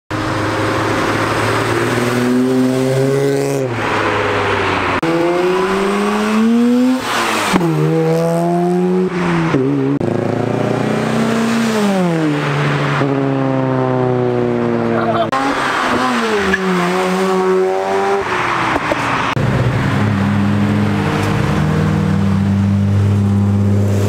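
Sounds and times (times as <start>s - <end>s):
car engines revving hard: 0.1s - 24.0s.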